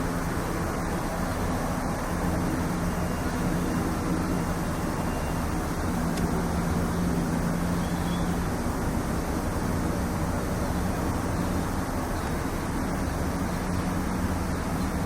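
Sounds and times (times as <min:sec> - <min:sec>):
constant rumbling noise: 0:00.0 - 0:15.0
steady low hum: 0:00.0 - 0:15.0.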